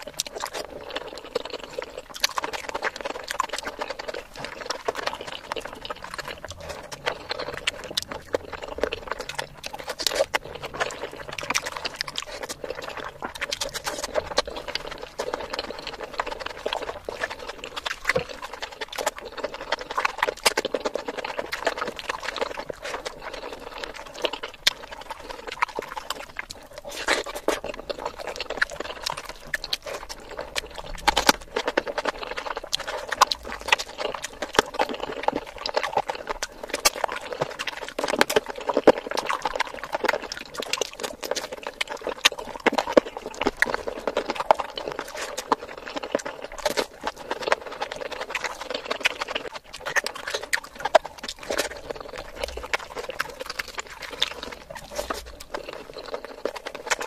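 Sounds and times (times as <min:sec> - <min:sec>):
chewing and wet lip-smacking: 0:00.0 - 0:57.0
chili crunching: 0:00.0 - 0:57.0.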